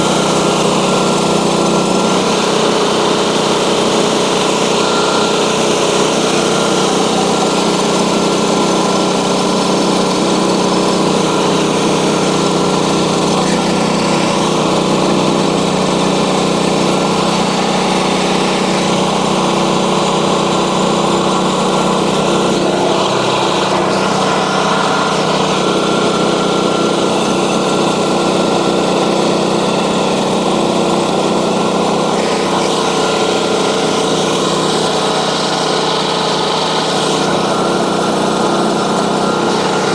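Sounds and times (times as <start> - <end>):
band blade cutting log: 0.0 - 39.9
sawmill engine running: 0.0 - 39.9.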